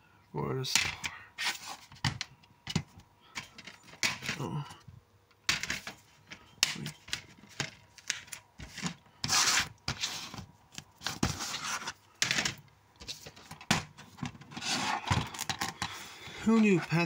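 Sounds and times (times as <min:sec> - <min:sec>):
plastic case clicking and scraping: 0:00.7 - 0:04.5, 0:05.4 - 0:17.0.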